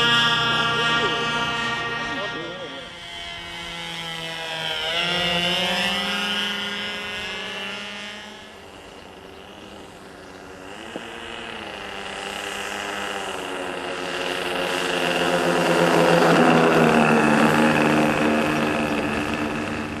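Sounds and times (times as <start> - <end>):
model plane engines droning: 0.0 - 20.0.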